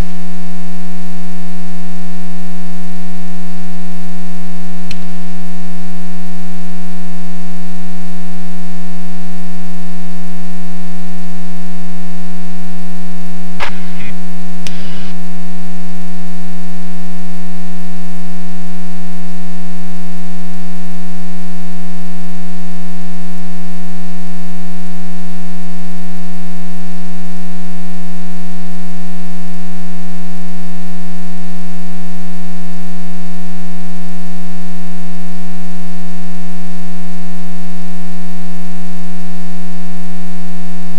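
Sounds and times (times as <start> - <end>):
loud steady buzz: 0.0 - 40.9.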